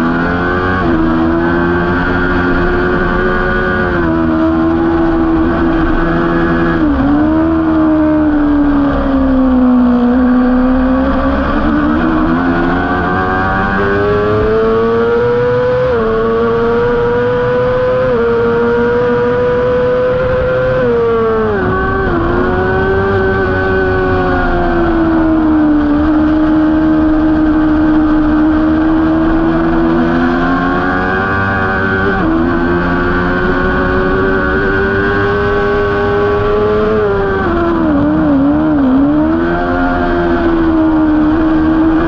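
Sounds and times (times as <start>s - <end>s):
motorcycle engine at high revs: 0.0s - 42.0s.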